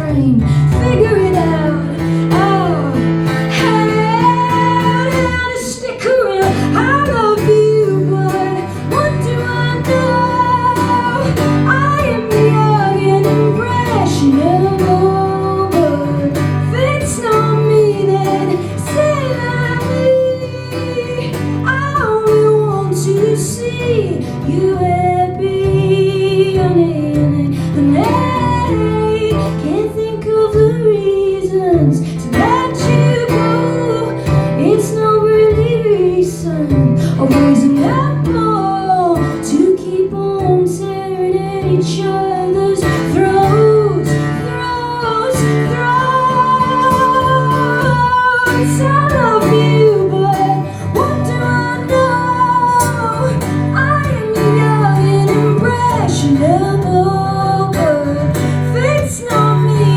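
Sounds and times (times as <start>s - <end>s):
guitar accompaniment: 0.0s - 59.9s
woman singing: 0.0s - 59.9s.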